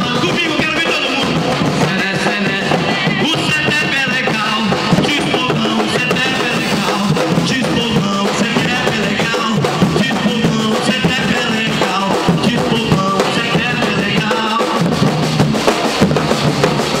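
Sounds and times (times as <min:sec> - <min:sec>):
bass drums playing rhythm: 0:00.0 - 0:17.0.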